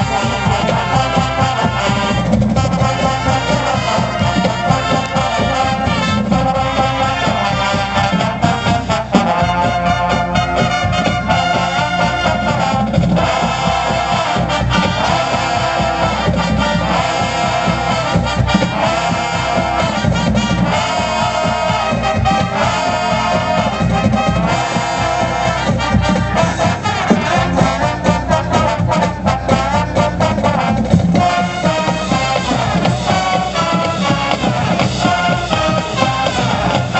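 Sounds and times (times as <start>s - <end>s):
brass chords: 0.0s - 36.9s
driving drum strokes: 0.0s - 36.9s.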